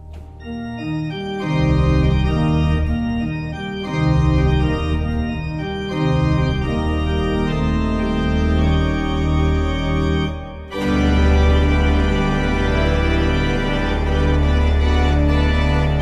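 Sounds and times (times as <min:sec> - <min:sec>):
pipe organ sustained chords: 0:00.0 - 0:16.0.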